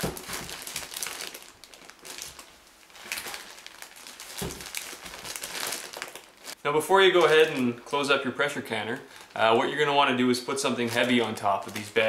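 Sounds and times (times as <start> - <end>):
plastic bags crinkling and rustling: 0.0 - 12.0.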